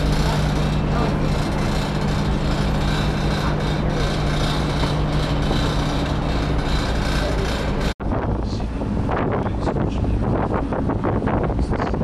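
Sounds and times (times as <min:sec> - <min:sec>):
boat engine humming: 0:00.0 - 0:12.0
water noise: 0:00.0 - 0:12.0
wind: 0:00.0 - 0:12.0
wind on microphone: 0:00.0 - 0:12.0.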